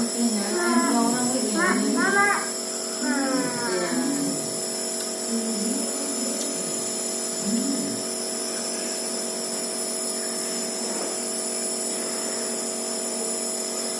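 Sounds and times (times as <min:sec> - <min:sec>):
nebulizer compressor whine: 0:00.0 - 0:13.9.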